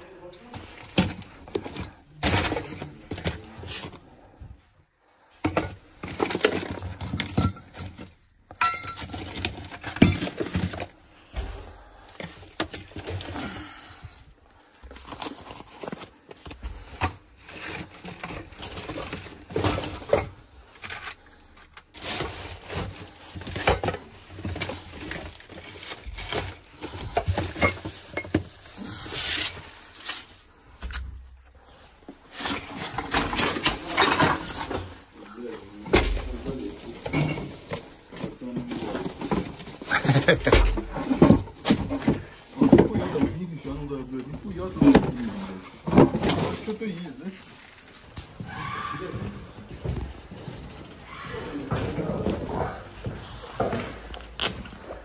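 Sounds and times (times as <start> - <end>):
junk objects clattering together: 0.3 - 4.3, 5.3 - 48.1.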